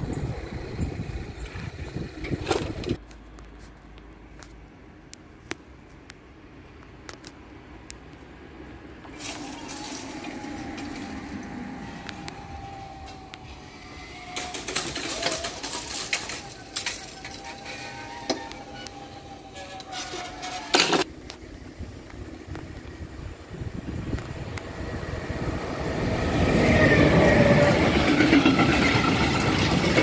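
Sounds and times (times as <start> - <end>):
vehicle whine: 0.0 - 30.0.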